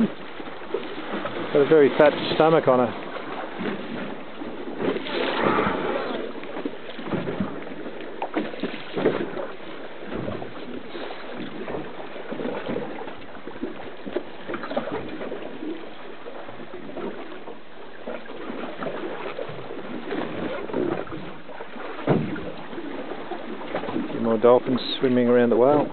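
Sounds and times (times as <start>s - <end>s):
water slapping boat hull: 0.0s - 25.9s.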